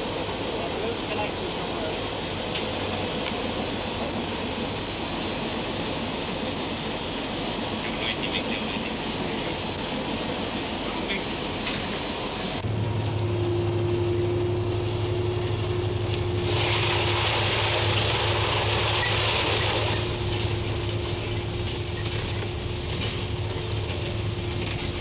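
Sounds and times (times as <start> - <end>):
diesel train engine drone: 0.0 - 25.0
passing train rushing hiss: 0.0 - 25.0.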